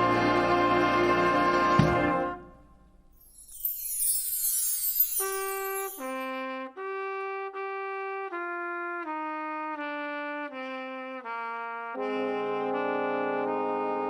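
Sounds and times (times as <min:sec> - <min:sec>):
solo brass melody: 0:00.0 - 0:02.5, 0:05.2 - 0:14.0.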